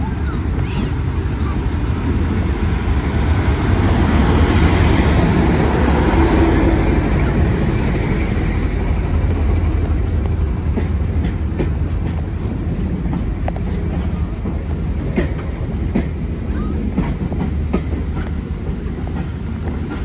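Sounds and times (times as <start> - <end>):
diesel locomotive passing: 0.0 - 20.0
train wheels rumbling on rails: 0.0 - 20.0.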